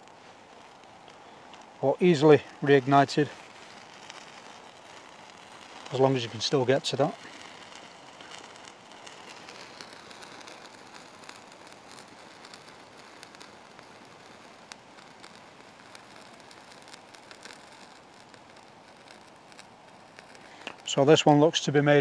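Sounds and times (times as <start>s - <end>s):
tinder crackling with flame hiss: 0.0s - 22.0s.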